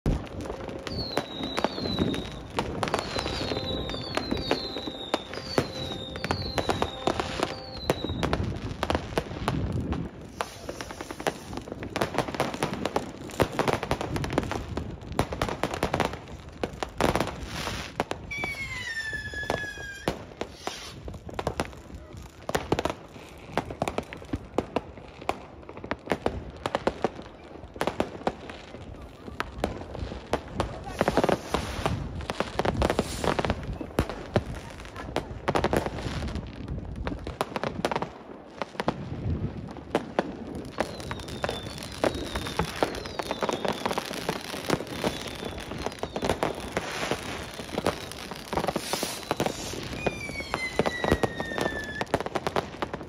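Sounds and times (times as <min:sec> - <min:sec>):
fireworks falling whistles: 0:00.0 - 0:24.3, 0:27.0 - 0:36.4, 0:40.2 - 0:53.0
firework bangs and crackles: 0:00.0 - 0:53.0.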